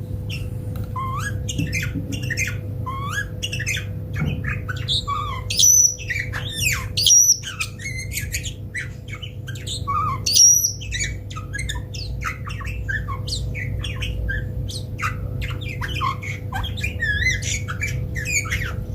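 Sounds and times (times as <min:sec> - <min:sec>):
steady low hum: 0:00.0 - 0:18.9
bulbul chirping and squawking: 0:00.3 - 0:18.9.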